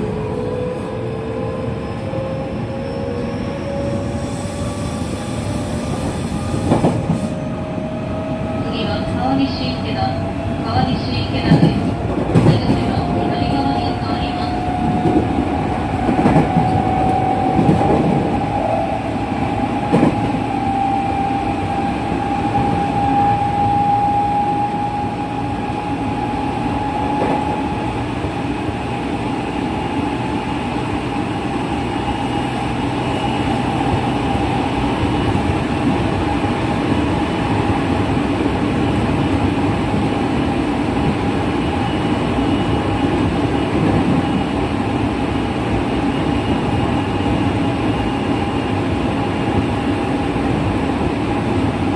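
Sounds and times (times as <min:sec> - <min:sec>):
train wheels rumbling on track: 0:00.0 - 0:51.9.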